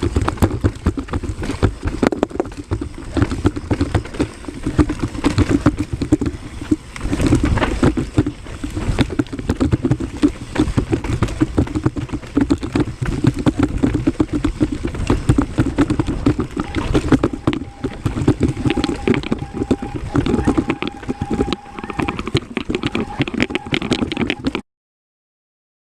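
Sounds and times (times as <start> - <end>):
bike rattling and knocking: 0.0 - 24.6
bike tyres crunching over dirt: 0.0 - 24.6
thin steady whine: 0.0 - 24.6.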